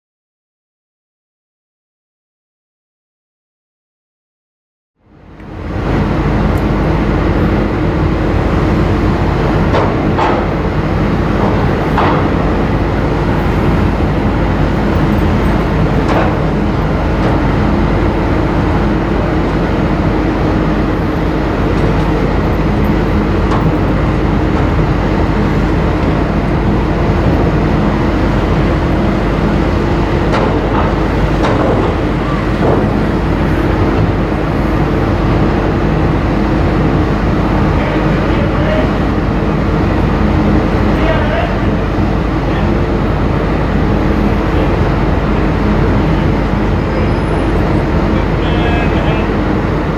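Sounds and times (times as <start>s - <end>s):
ferry engines droning: 5.0s - 49.9s.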